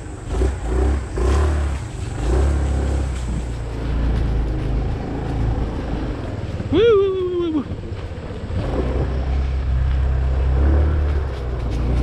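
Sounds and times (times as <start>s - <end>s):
scooter engine running: 0.0s - 12.0s
wind rumble on microphone: 0.0s - 12.0s.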